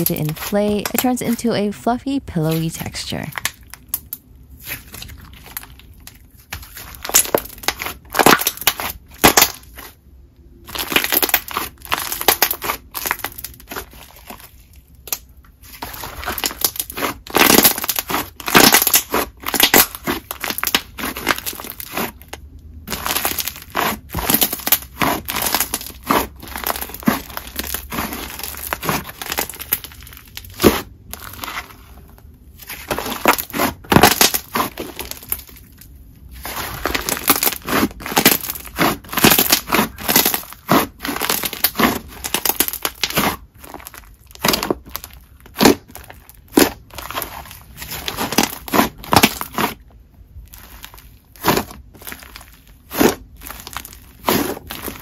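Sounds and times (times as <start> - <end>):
slime squelching: 0.0 - 10.0, 10.6 - 55.0.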